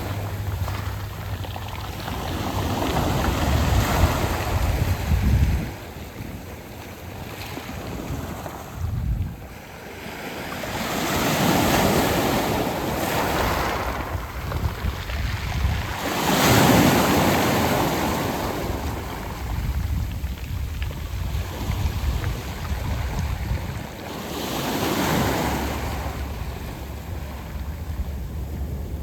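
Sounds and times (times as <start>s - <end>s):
sea waves breaking on pebble beach: 0.0s - 8.8s, 9.4s - 28.4s
wind rumbling on microphone: 0.0s - 29.0s.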